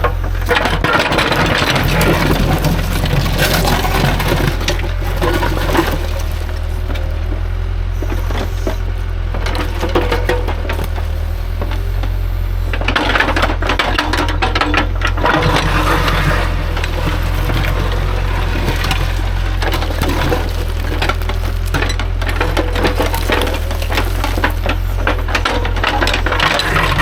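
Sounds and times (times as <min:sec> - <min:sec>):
diesel machine running: 0:00.0 - 0:27.0
rocks clattering and scraping: 0:00.0 - 0:27.0.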